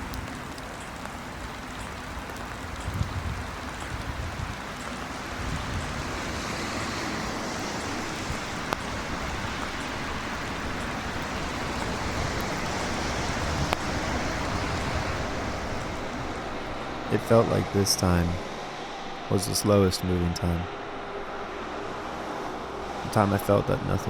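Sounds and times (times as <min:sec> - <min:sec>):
steady rushing noise: 0:02.8 - 0:24.0.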